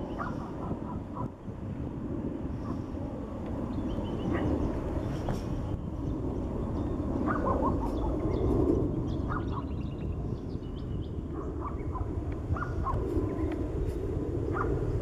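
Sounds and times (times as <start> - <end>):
birds chirping: 0.0 - 1.3, 3.5 - 14.8
jet airliner rumble: 0.0 - 15.0.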